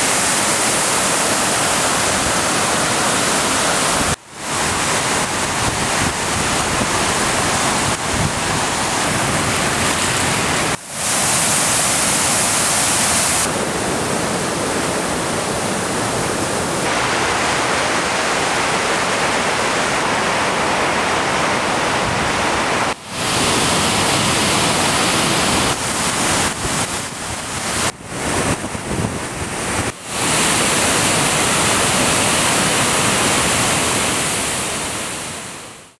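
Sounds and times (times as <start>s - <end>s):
whitewater rushing over falls: 0.0s - 36.0s.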